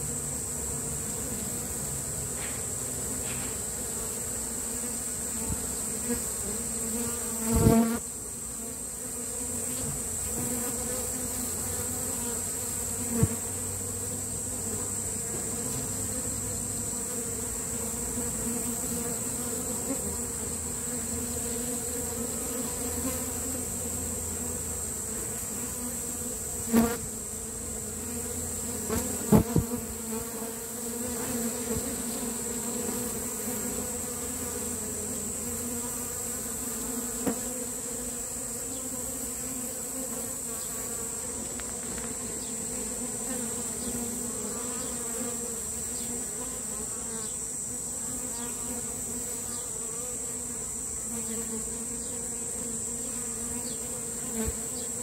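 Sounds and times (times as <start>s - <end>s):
bee swarm humming: 0.0s - 55.0s.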